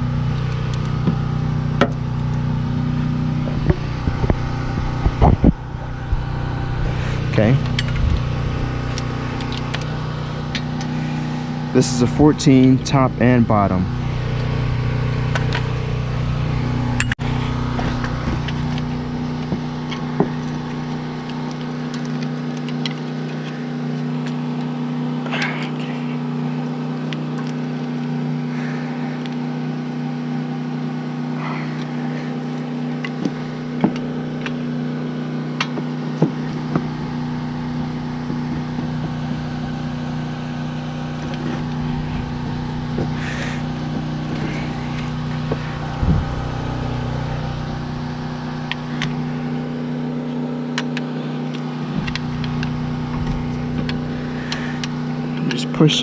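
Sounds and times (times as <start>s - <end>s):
motor running: 0.0s - 56.0s.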